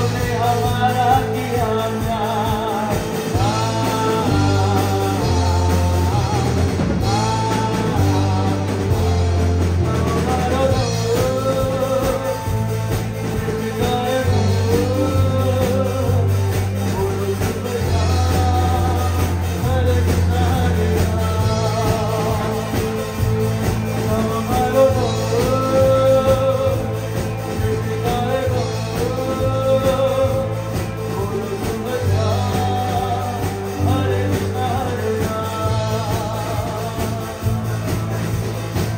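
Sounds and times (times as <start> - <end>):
electric guitar: 0.0 - 38.9
keyboard: 0.0 - 38.9
low bass line: 0.0 - 38.9
male singer through microphone: 0.0 - 38.9.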